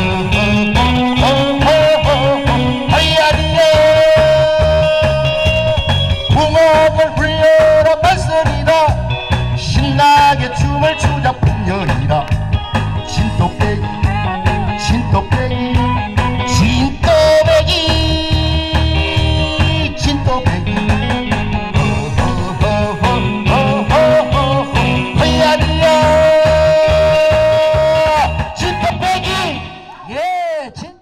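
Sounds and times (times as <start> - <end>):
backing track with steady beat: 0.0 - 31.0
man singing into a microphone: 0.0 - 31.0.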